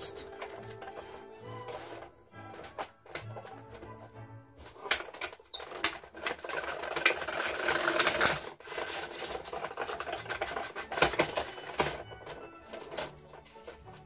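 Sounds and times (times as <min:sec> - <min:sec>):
hand-cranked machine clicking and rattling: 0:00.0 - 0:14.0.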